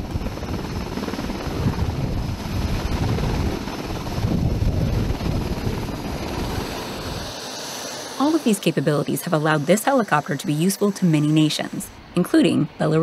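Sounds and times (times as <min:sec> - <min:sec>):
helicopter rotor and engine rumble: 0:00.0 - 0:13.0.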